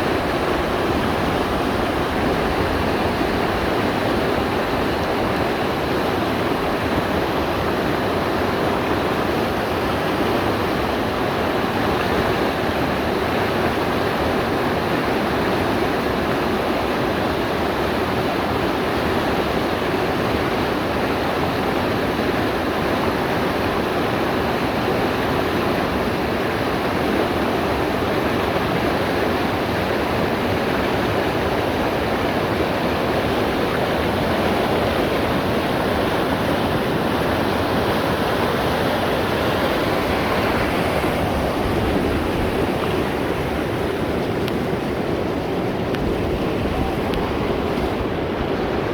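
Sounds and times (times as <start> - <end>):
stream rushing over rocks: 0.0 - 48.9.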